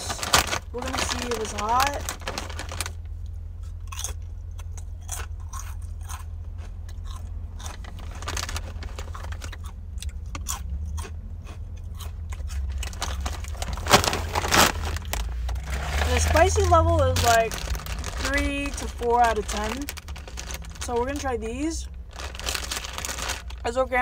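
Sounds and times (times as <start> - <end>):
chewing crunchy chips: 3.6 - 23.7.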